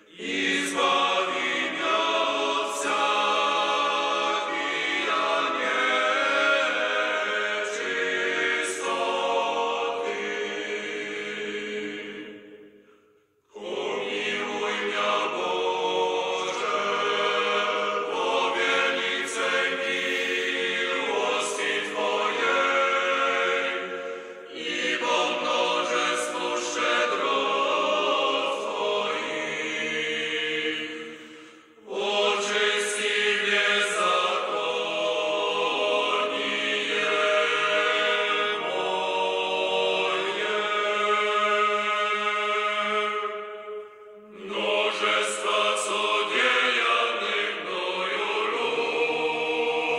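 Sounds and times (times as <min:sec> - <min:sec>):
choir chanting held chords: 0:00.0 - 0:12.9, 0:13.5 - 0:49.9.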